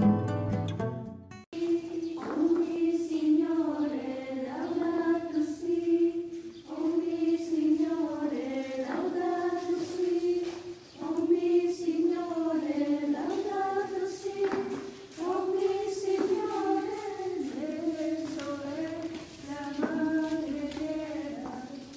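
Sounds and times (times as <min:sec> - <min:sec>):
slow chant-like singing: 0:01.5 - 0:21.9.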